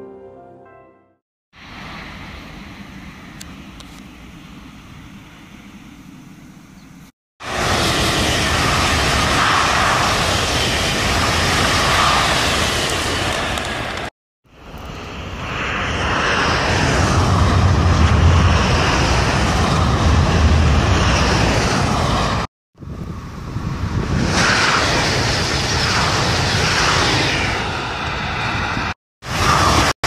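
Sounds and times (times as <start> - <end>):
high-speed trains passing: 1.6 - 30.0.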